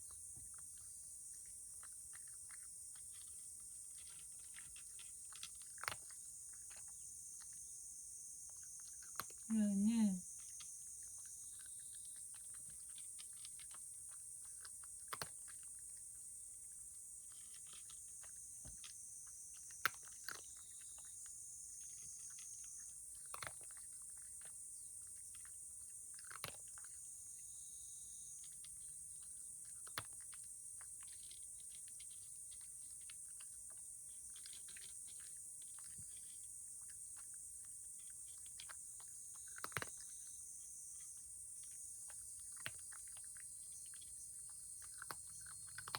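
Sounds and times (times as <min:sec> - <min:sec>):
cat chewing food: 0:00.4 - 0:07.6, 0:08.5 - 0:09.5, 0:10.3 - 0:27.0, 0:28.4 - 0:40.3, 0:40.9 - 0:45.9.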